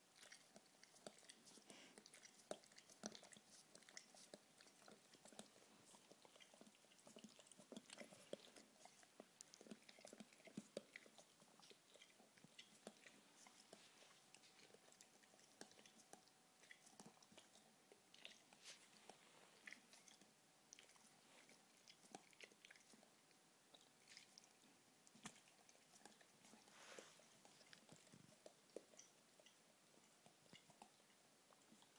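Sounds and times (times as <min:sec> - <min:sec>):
dog licking mouth wet clicks: 0:00.1 - 0:31.9.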